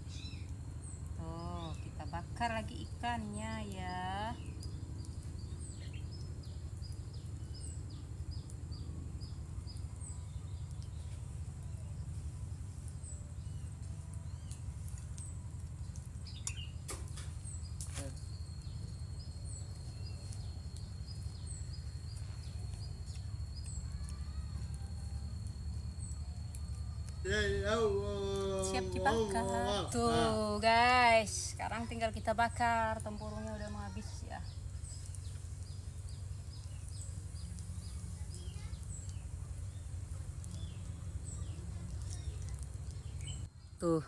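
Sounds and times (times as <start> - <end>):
steady low rumble: 0.0 - 43.8
small birds chirping: 0.0 - 44.0.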